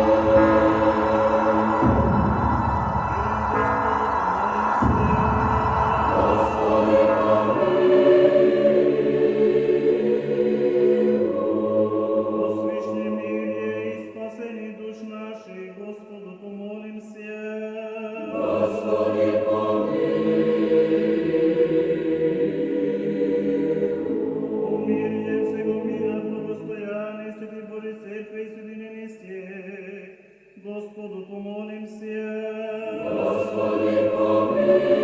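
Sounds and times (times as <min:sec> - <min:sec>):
choral chanting: 0:00.0 - 0:14.8, 0:17.8 - 0:28.2, 0:31.9 - 0:35.0.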